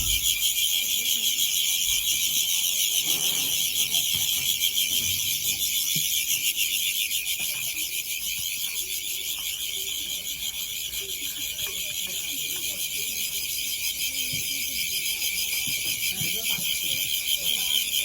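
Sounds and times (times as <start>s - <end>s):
shrill chirping and trilling chorus: 0.0s - 18.0s.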